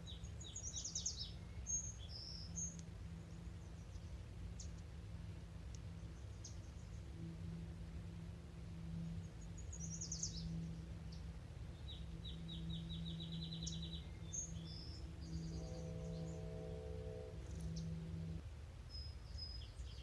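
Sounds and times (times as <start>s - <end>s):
songbird singing: 0.0s - 20.0s
steady low hum: 0.0s - 20.0s.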